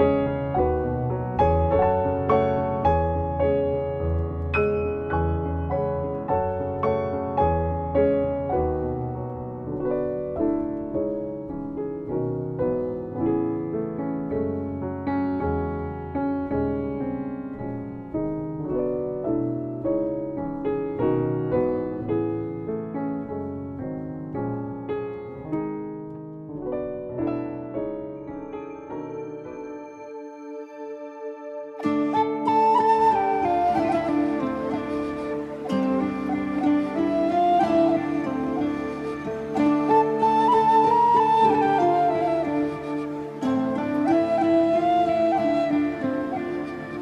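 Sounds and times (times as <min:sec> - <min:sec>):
slow gentle piano music: 0:00.0 - 0:47.0.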